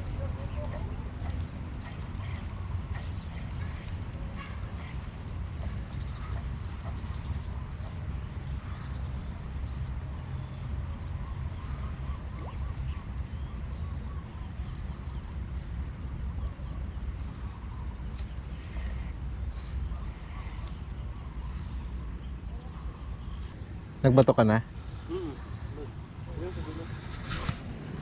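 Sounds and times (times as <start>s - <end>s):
faint bird calls: 0.0s - 24.1s, 24.7s - 28.0s.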